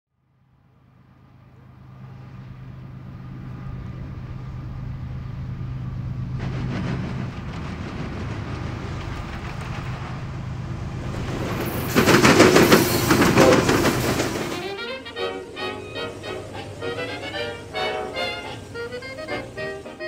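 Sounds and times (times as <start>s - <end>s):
diesel locomotive engine drone: 0.2s - 20.0s
train wheels clacking on rails: 3.2s - 20.0s.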